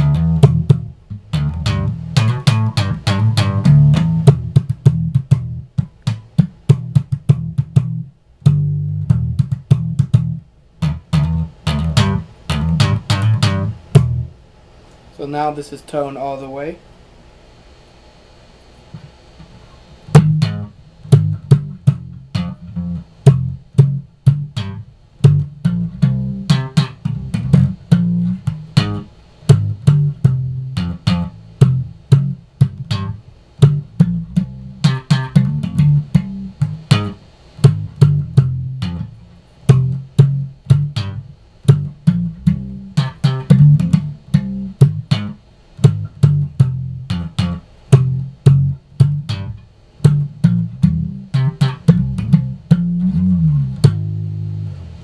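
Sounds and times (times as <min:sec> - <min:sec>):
slap bass guitar: 0:00.0 - 0:14.4, 0:19.0 - 0:55.0.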